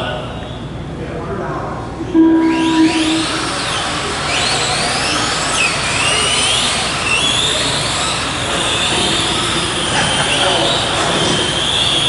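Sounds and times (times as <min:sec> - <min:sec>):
electric motors whining: 0:02.0 - 0:12.0.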